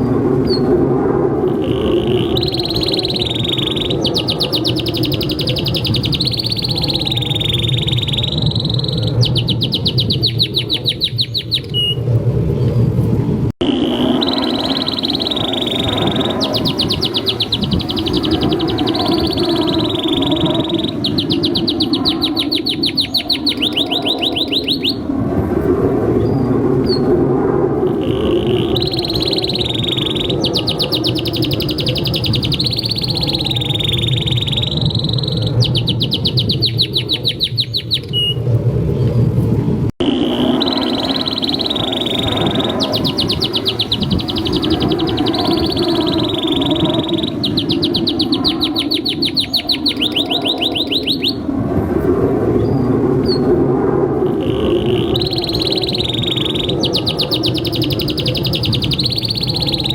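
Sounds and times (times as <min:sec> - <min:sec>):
steady low rumble: 0:00.0 - 0:59.9
canary singing: 0:01.5 - 0:12.0, 0:13.6 - 0:25.0, 0:27.9 - 0:38.4, 0:40.0 - 0:51.4, 0:54.4 - 0:59.9.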